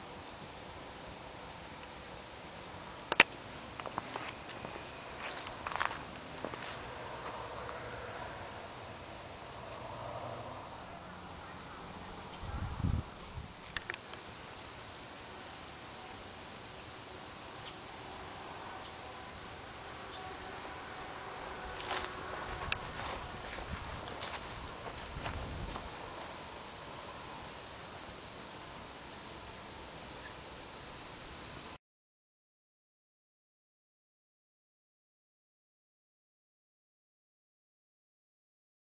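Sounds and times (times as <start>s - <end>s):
crickets trilling: 0.0s - 31.8s.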